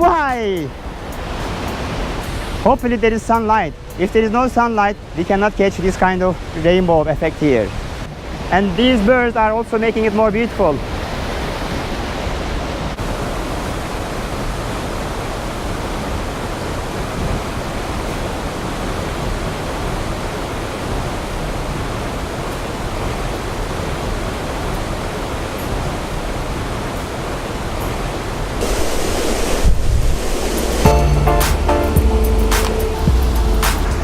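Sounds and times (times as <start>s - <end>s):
waterfall roaring: 0.0s - 30.9s.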